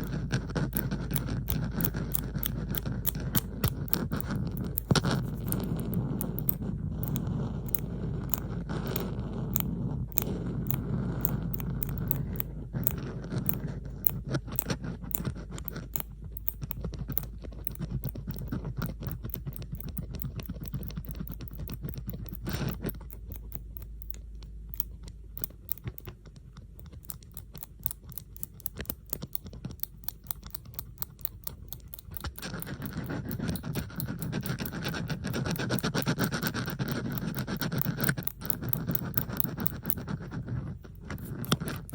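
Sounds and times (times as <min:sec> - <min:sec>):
fuller scraping: 0:00.0 - 0:41.9
metallic clicks and scratching: 0:00.0 - 0:41.9.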